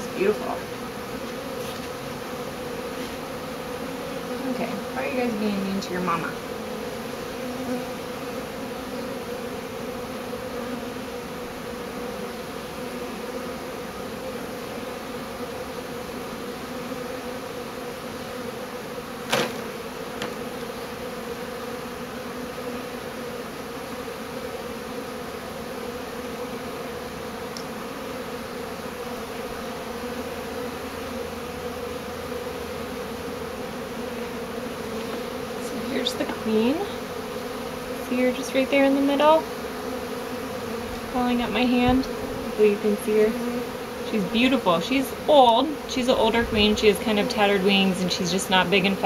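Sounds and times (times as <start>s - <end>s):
bee swarm buzzing: 0.0s - 49.0s.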